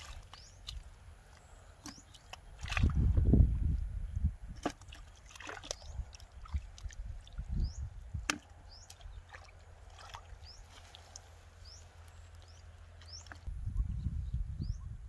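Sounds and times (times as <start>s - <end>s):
splashing in shallow muddy water: 0.0s - 13.5s.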